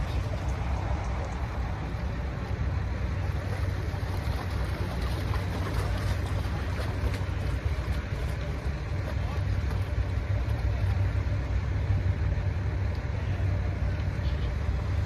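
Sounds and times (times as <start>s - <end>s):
boat engines rumbling: 0.0s - 15.0s.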